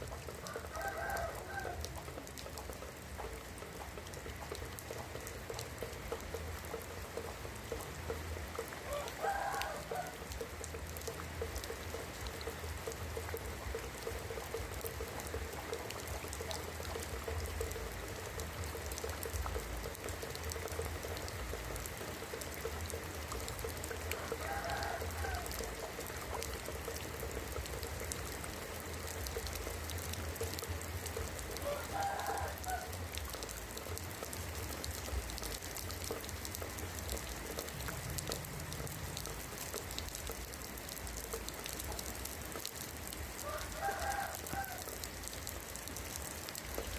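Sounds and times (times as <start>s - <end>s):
rain on roof tiles: 0.0s - 46.9s.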